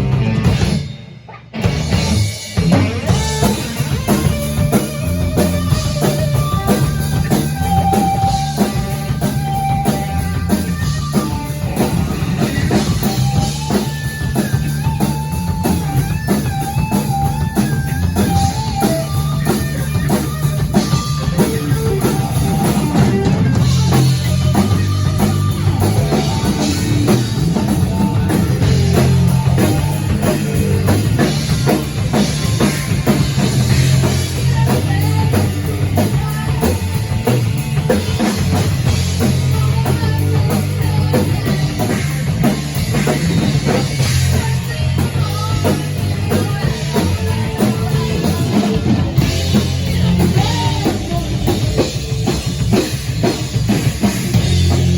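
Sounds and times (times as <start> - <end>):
bass line: 0.0 - 54.9
drum kit beat: 0.0 - 54.9
guitar: 0.0 - 54.9.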